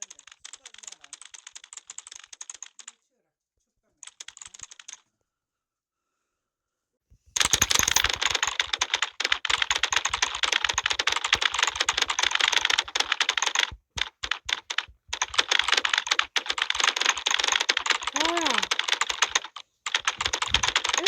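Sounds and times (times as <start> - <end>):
fast keyboard typing: 0.0 - 3.0, 4.0 - 5.0, 7.4 - 21.0.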